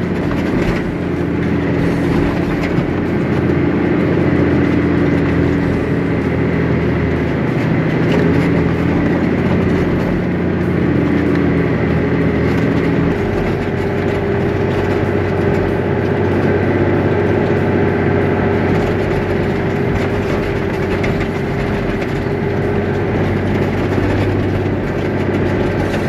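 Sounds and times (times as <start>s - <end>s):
truck engine running from inside cabin: 0.0s - 26.0s.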